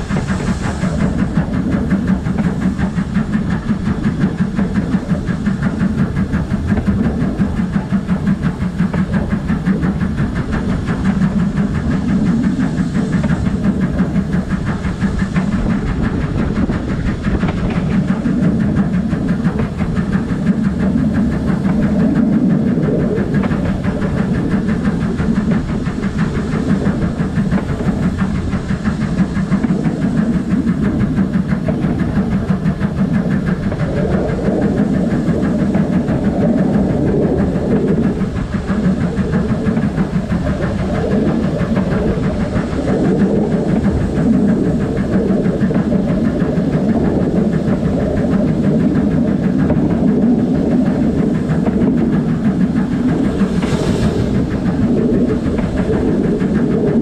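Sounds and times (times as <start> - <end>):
steam hissing: 0.0 - 57.0
wheel on rail clatter: 0.0 - 57.0.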